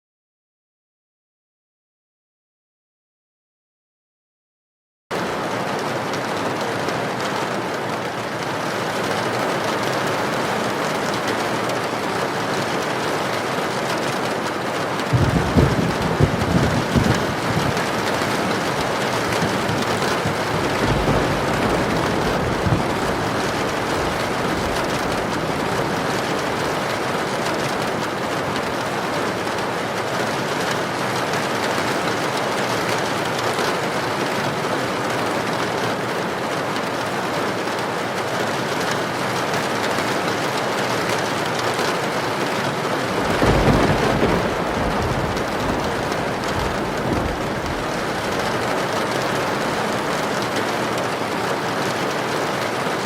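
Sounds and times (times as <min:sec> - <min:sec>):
heavy rain: 0:05.1 - 0:53.0
wind: 0:05.1 - 0:53.0.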